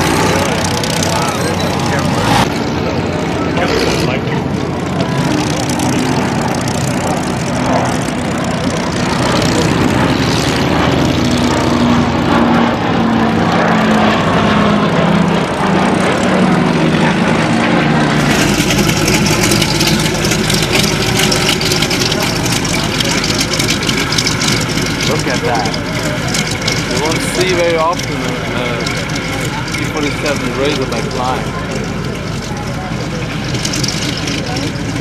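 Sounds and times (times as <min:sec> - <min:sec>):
airplane engines in a fly-past: 0:00.0 - 0:35.0
radial engine pulsing while taxiing: 0:00.0 - 0:35.0.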